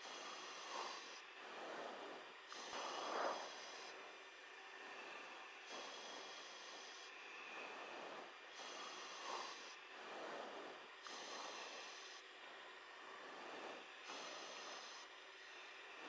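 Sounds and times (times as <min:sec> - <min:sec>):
faint breathing over intercom: 0:00.0 - 0:16.0
steady hiss: 0:00.0 - 0:16.0.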